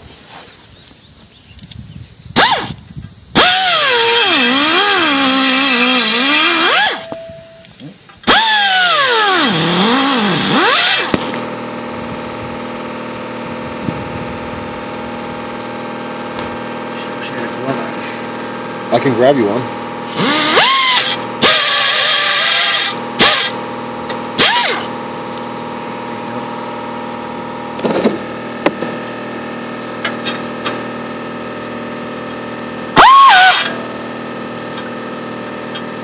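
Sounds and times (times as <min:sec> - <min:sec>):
air tool whining: 0:01.6 - 0:36.0.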